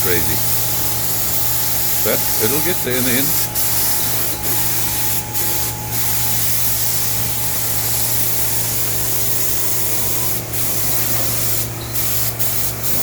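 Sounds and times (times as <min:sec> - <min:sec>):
paint spray gun hissing: 0:00.0 - 0:13.0
steady low hum: 0:00.0 - 0:13.0.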